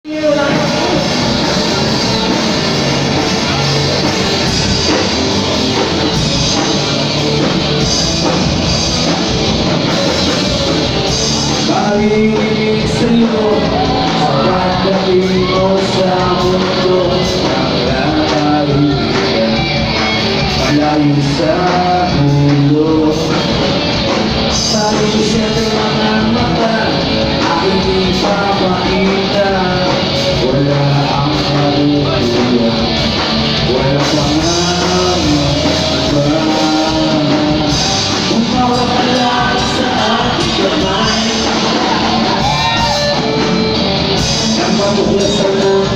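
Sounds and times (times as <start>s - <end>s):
electric guitars: 0.0s - 45.9s
male singer: 0.0s - 45.9s.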